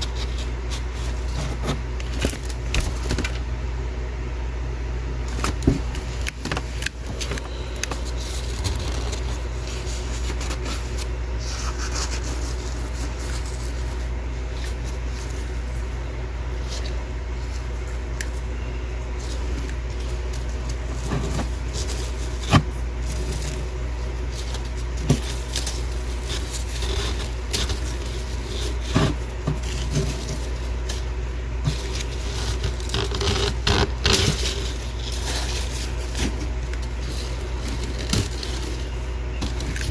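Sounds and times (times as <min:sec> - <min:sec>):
frost crunching and scraping: 0:00.0 - 0:03.5, 0:05.2 - 0:39.9
steady low hum: 0:00.0 - 0:39.9
frost crackles and cracks: 0:05.3 - 0:39.9.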